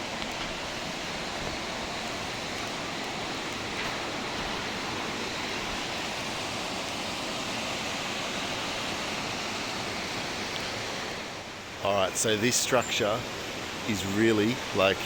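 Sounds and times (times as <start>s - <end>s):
creek flowing: 0.0s - 15.0s
waterfall rushing: 0.0s - 15.0s.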